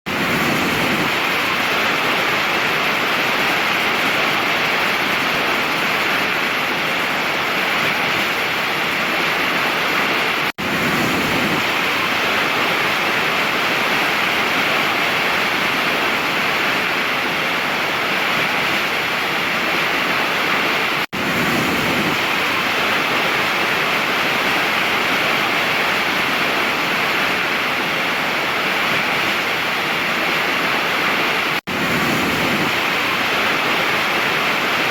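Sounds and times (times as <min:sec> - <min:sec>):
large waterfall rushing: 0:00.1 - 0:34.9.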